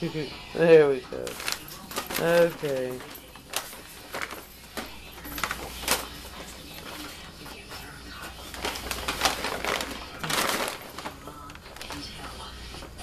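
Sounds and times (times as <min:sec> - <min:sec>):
paper bag rustling and crackling: 0:00.6 - 0:12.9.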